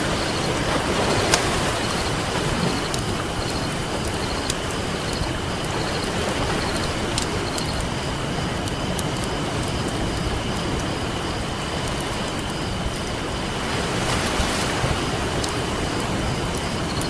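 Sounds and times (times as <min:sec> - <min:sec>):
campfire crackling and popping: 0:00.0 - 0:17.0
ocean surf: 0:00.0 - 0:17.0.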